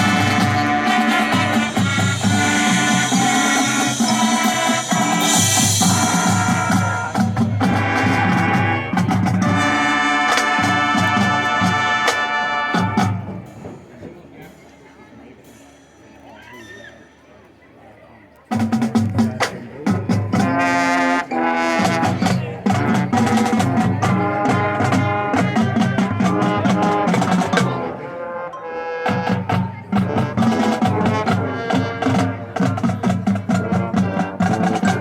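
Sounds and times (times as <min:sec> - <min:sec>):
marching band playing: 0:00.0 - 0:17.2, 0:18.5 - 0:35.0.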